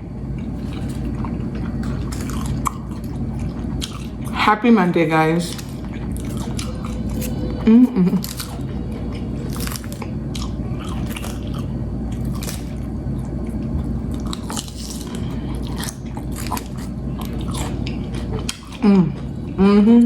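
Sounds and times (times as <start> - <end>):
steady low hum: 0.0 - 20.0
chewing and biting food: 0.3 - 4.4, 5.5 - 7.6, 8.2 - 19.6.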